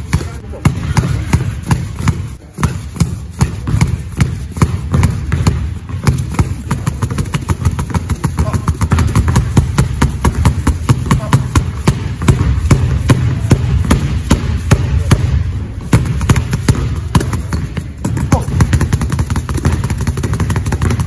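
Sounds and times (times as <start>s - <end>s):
basketballs bouncing on wooden floor: 0.0s - 21.0s.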